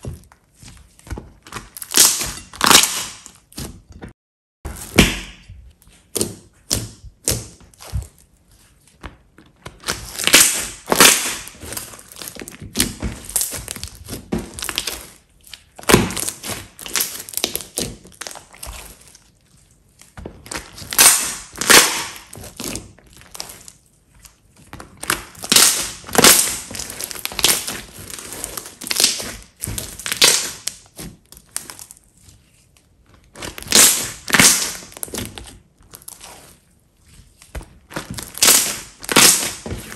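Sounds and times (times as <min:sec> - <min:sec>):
slime squishing and crackling: 0:00.0 - 0:03.9, 0:04.7 - 0:39.9.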